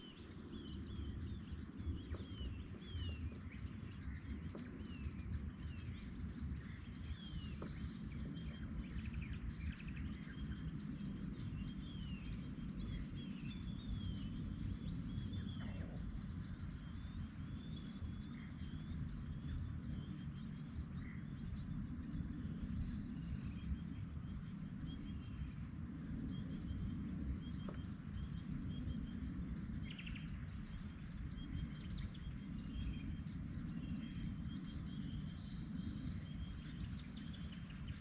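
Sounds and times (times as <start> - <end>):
birds chirping and whistling: 0.0 - 38.0
steady low rumble: 0.0 - 38.0.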